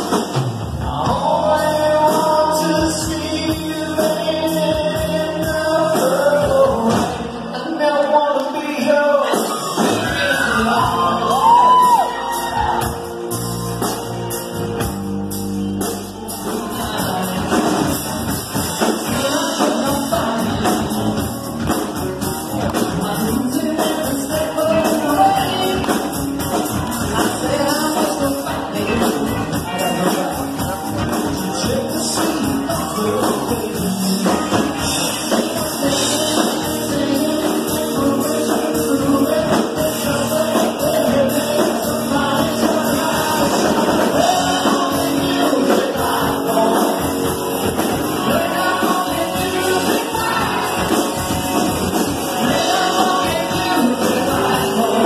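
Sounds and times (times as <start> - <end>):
drum kit: 0.0 - 7.5, 9.2 - 55.0
man singing: 0.0 - 13.0, 18.7 - 55.0
electric guitars: 9.2 - 55.0.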